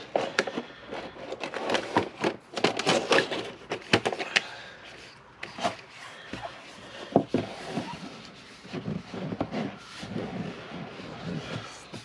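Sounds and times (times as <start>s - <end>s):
board game box being packed: 0.0s - 12.0s.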